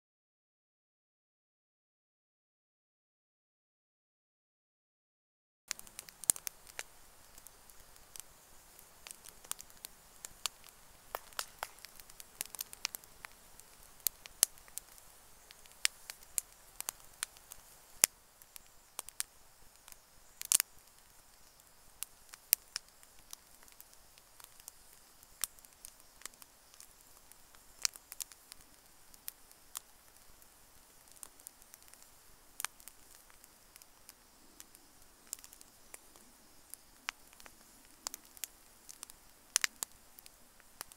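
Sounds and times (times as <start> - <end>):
campfire crackling: 5.7 - 40.9
faint steady hiss: 5.7 - 40.9.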